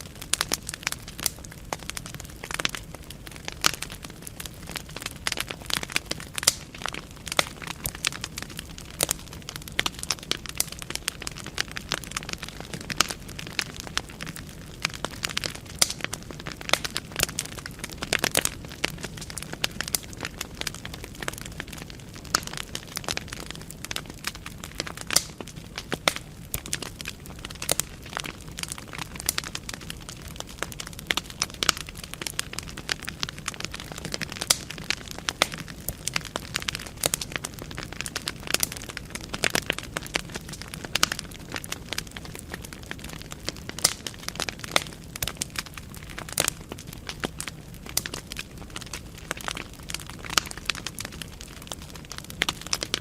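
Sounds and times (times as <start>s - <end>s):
logs crackling and popping: 0.0s - 53.0s
low rumble of flame: 0.0s - 53.0s.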